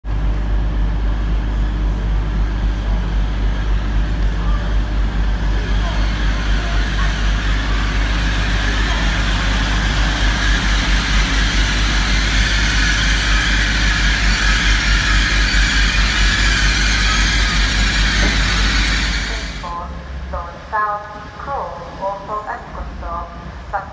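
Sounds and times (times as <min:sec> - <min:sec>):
diesel train passing: 0:00.0 - 0:23.9.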